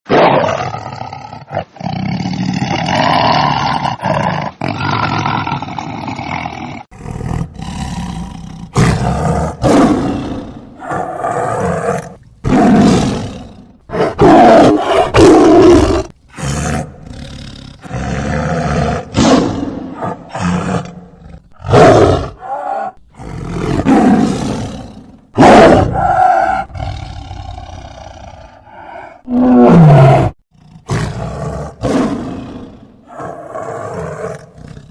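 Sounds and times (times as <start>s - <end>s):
tiger growling: 0.1s - 34.9s
tiger roaring and snarling: 0.1s - 34.9s.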